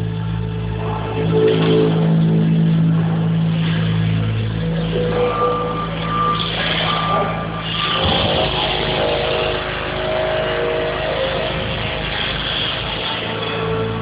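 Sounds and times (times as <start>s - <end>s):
low droning hum: 0.0s - 14.0s.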